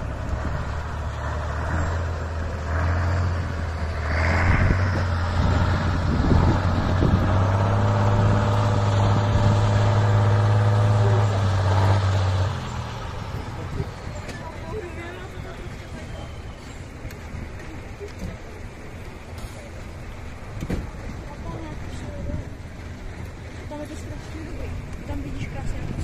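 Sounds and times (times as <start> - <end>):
truck engine labouring: 0.0 - 26.0.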